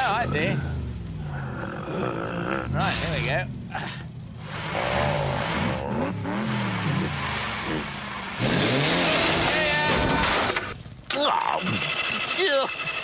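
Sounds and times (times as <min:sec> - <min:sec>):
cartoon car engines revving: 0:00.0 - 0:13.0.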